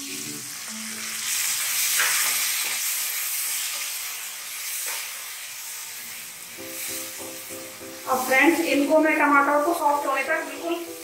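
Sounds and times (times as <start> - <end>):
tomatoes sizzling in hot fat: 0.0 - 11.0.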